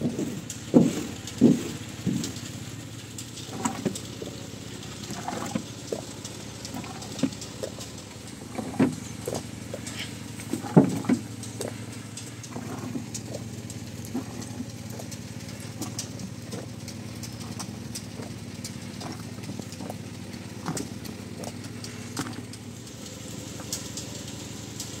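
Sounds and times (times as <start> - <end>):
boiling juice popping and clicking: 0.0 - 25.0
motor humming: 0.0 - 25.0.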